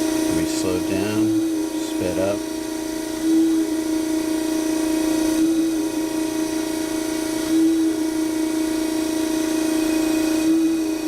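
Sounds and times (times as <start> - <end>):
surface grinder whining: 0.0 - 11.0.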